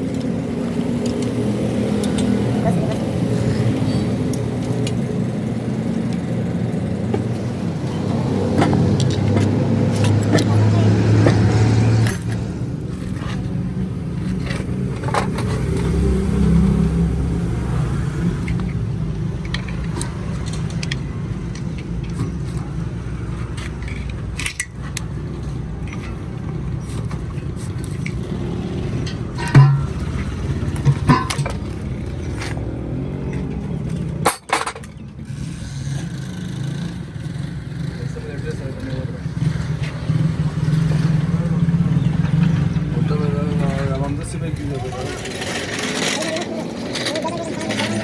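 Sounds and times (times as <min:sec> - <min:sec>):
metal tools clinking and scraping: 0:00.0 - 0:06.2, 0:07.0 - 0:13.5, 0:14.2 - 0:16.6, 0:19.4 - 0:32.6, 0:33.3 - 0:41.4, 0:42.4 - 0:48.0.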